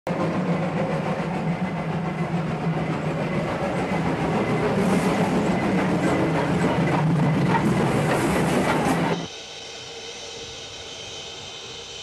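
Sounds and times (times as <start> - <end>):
train rumbling on rails: 0.1 - 12.0.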